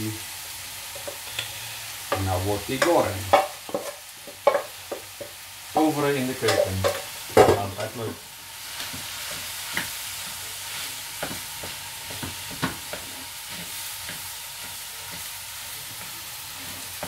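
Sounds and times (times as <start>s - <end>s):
rice sizzling in a wok: 0.0s - 17.0s
wooden spatula scraping a wok: 0.9s - 17.0s.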